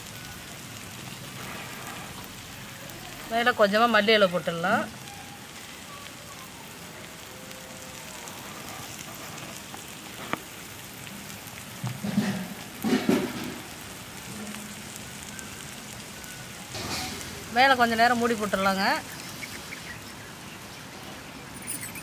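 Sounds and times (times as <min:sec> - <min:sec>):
batter sizzling on griddle: 0:00.0 - 0:22.0.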